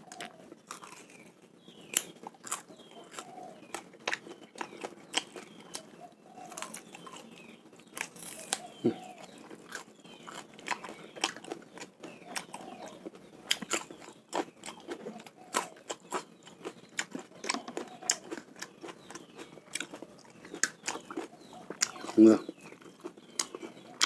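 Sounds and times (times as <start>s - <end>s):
chewing and crunching: 0.0s - 24.0s.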